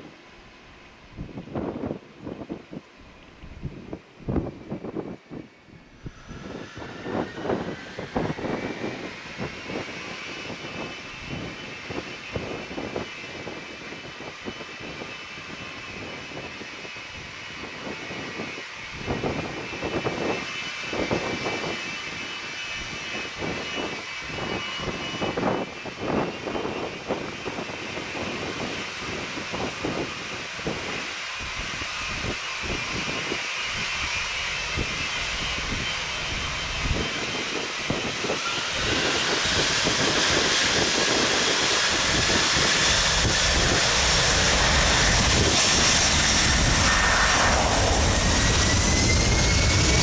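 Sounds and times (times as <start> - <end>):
wind buffeting microphone: 1.0 - 50.0
jet engines spooling up: 3.2 - 16.6, 17.5 - 50.0.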